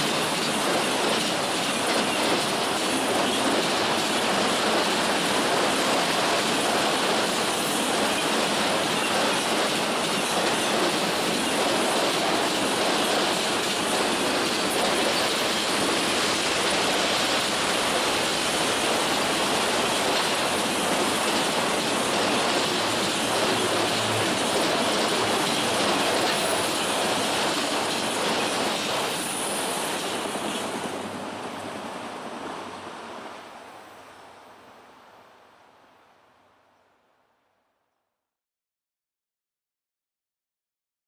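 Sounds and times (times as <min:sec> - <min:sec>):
freight train wheels rumbling: 0:00.0 - 0:33.4.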